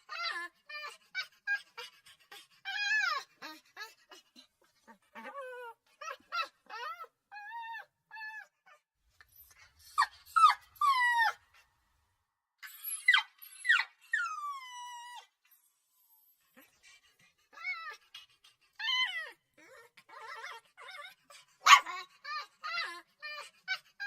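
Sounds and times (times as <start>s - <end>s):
puppy whimpering and crying: 0.0s - 11.8s, 12.6s - 24.0s.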